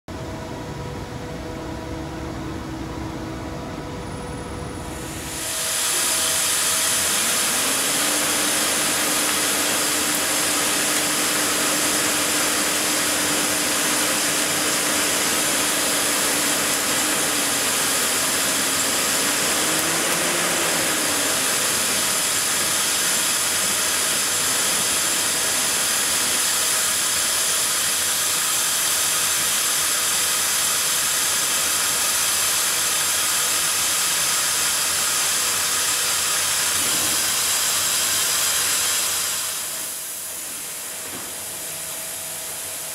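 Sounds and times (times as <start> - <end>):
lathe boring hiss: 4.6 - 42.9.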